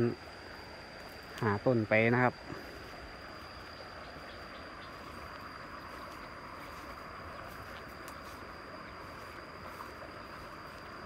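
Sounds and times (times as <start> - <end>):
continuous high-pitched tone: 0.0 - 11.0
even hiss: 0.0 - 11.0
insects calling: 0.0 - 11.0.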